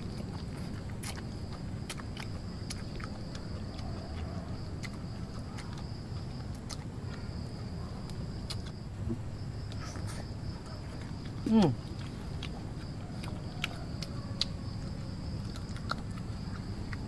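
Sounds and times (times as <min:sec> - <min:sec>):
chewing twigs crunching: 0:00.0 - 0:17.0.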